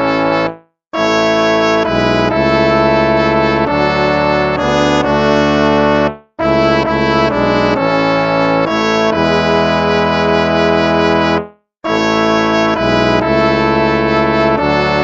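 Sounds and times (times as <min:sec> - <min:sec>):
brass hymn chords: 0:00.0 - 0:15.0.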